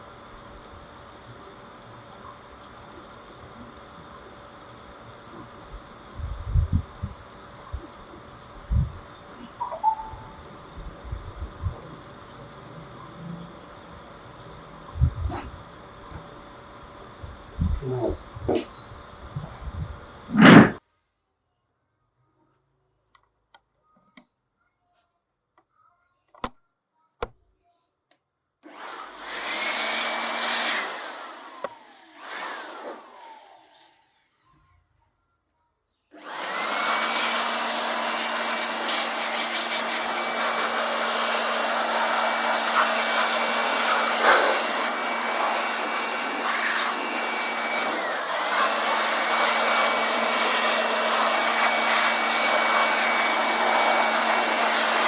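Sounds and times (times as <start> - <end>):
electric fan motor whining: 0.0 - 20.8, 28.7 - 34.2, 36.2 - 55.0.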